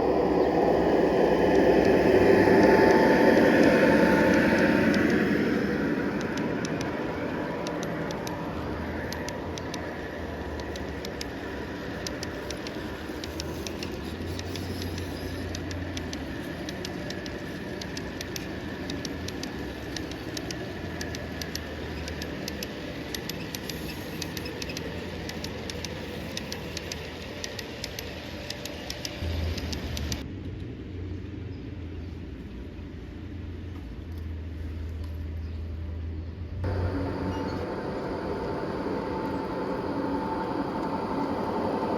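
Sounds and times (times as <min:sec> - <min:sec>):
model train rumbling: 0:00.0 - 0:30.4, 0:36.6 - 0:41.9
wheels clicking on rails: 0:00.0 - 0:30.8, 0:36.6 - 0:41.9.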